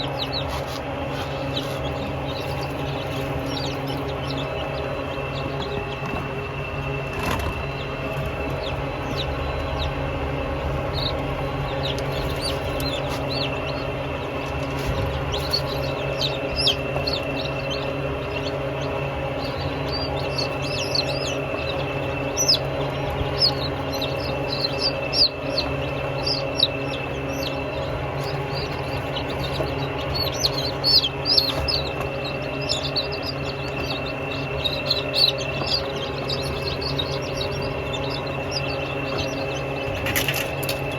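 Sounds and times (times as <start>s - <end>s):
birds chirping: 0.0s - 40.9s
steady low hum: 0.0s - 40.9s.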